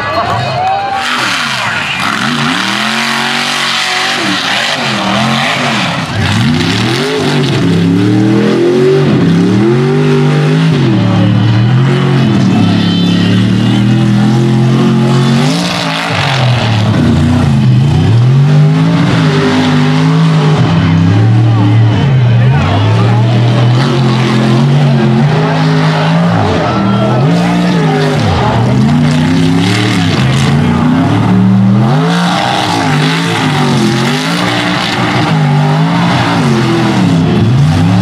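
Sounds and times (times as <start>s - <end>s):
truck engines revving hard: 0.0s - 38.0s.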